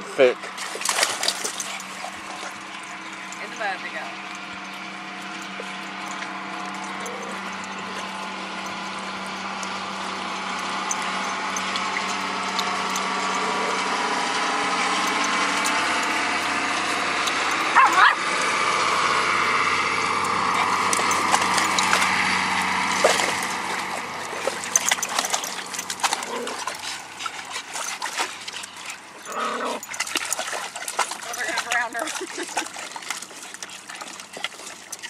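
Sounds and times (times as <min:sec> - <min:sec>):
dogs splashing in water: 0:00.0 - 0:35.0
hose pouring water into pool: 0:00.0 - 0:35.0.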